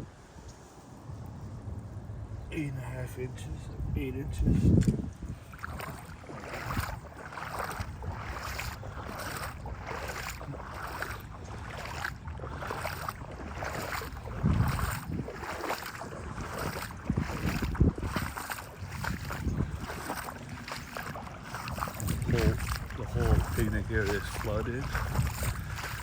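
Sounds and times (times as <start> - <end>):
wind on microphone: 0.0 - 2.5, 3.4 - 26.0
footsteps splashing through water: 4.5 - 26.0.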